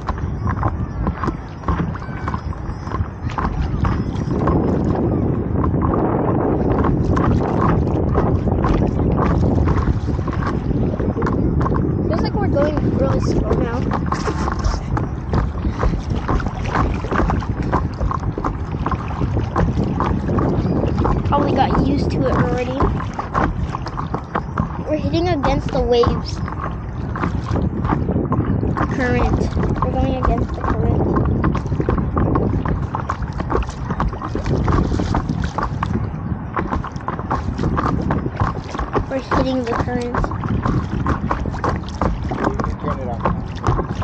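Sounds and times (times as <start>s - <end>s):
water slapping against paddle board: 0.0s - 44.0s
wind buffeting microphone: 0.0s - 44.0s.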